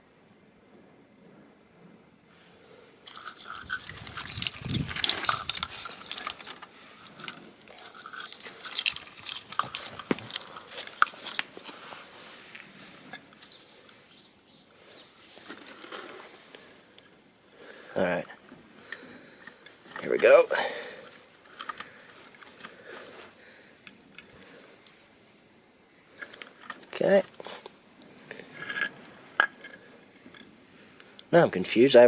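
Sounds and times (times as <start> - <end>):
wires rustling and crinkling: 2.3 - 31.3.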